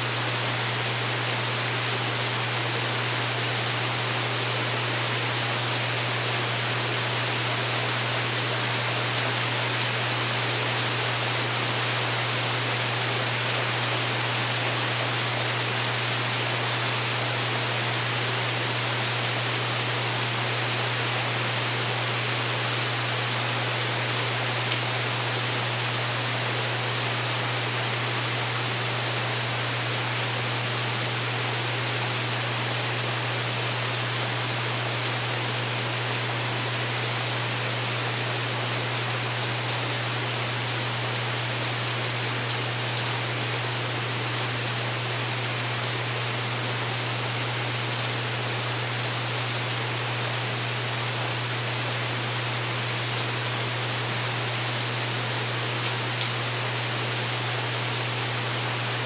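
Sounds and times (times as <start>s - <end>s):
rain pattering on a roof: 0.0s - 59.0s.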